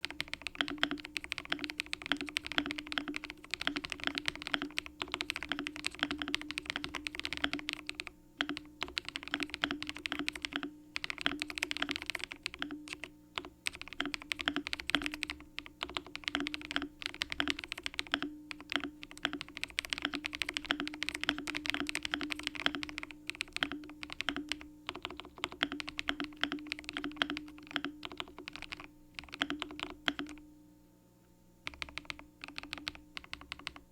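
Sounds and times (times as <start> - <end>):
fast mechanical keyboard typing: 0.0 - 30.4, 31.6 - 33.9.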